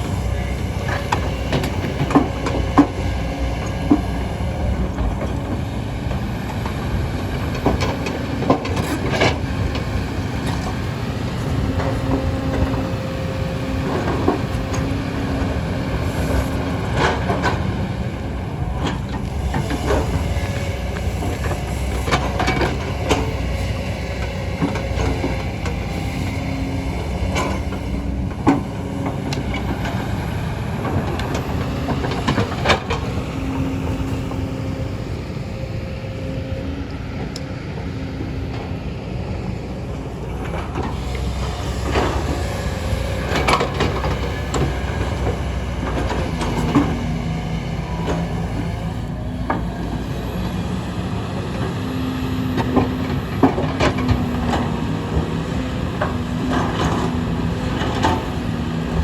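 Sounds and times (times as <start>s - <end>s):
excavator diesel engine running: 0.0s - 59.0s
hydraulic hum: 0.0s - 59.0s.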